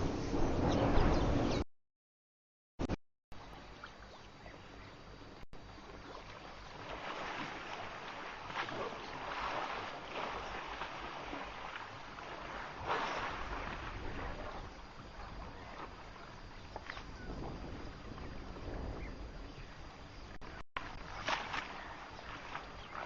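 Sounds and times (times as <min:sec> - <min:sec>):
outdoor noise at waterhole: 0:02.8 - 0:23.0.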